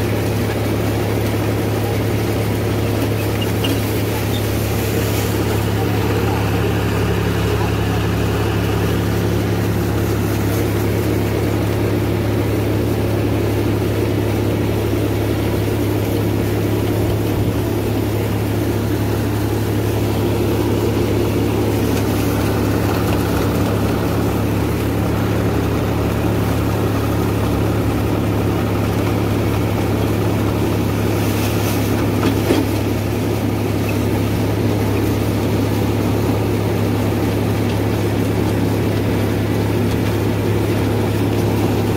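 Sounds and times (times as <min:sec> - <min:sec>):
diesel tractor engine under load: 0:00.0 - 0:41.9
rotavator churning soil: 0:00.0 - 0:41.9.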